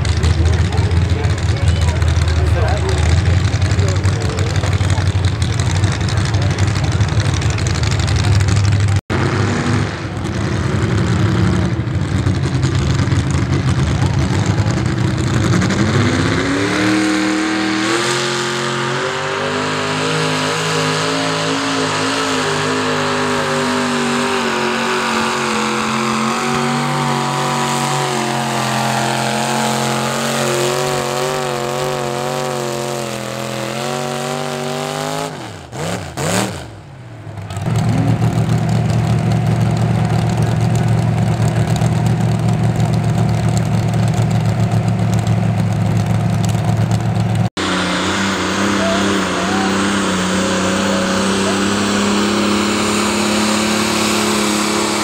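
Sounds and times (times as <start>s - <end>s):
low steady engine rumble: 0.0s - 9.1s, 9.9s - 34.7s, 36.7s - 55.0s
tractor engine at full throttle: 0.0s - 55.0s.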